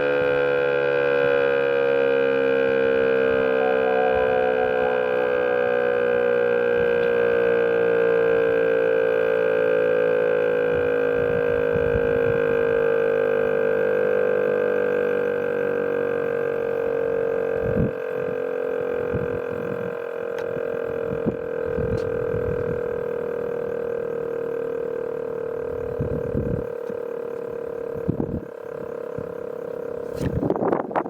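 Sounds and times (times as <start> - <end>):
mechanical siren winding down: 0.0 - 30.3.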